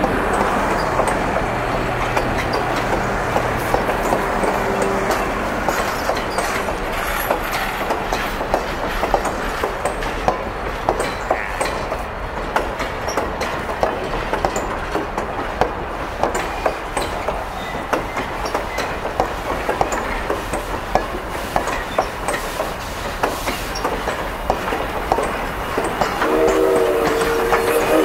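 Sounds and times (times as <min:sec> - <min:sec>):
low train rumble: 0:00.0 - 0:28.0
train wheels clanking over rail joints: 0:00.0 - 0:28.0.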